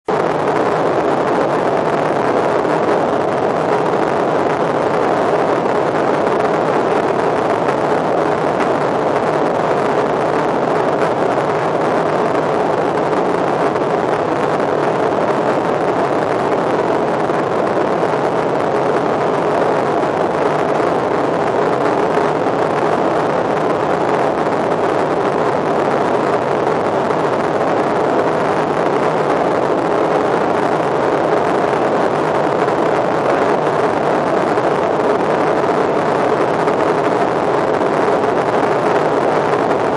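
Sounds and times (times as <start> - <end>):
aircraft cabin engine rush: 0.0 - 39.9
faint hum: 0.1 - 39.9.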